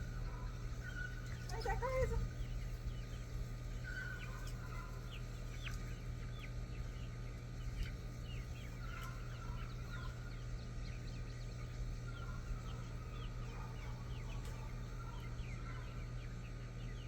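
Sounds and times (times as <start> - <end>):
baby chicks peeping: 0.0 - 17.0
steady low hum: 0.0 - 17.0.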